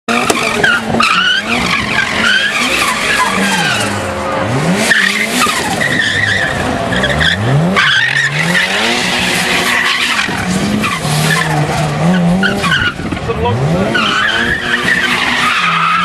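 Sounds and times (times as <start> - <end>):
car engine revving hard: 0.1 - 16.0
tyres squealing: 0.1 - 16.0.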